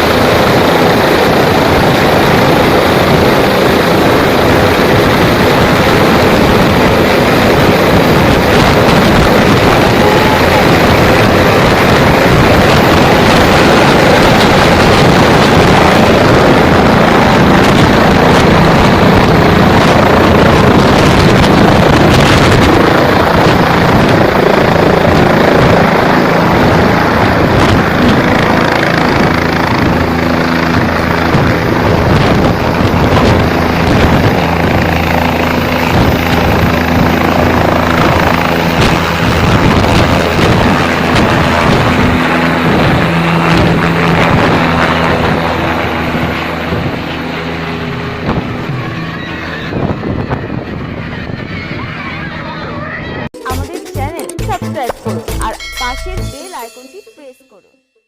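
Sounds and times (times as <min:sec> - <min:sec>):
helicopter rotor and engine: 0:00.0 - 0:57.5.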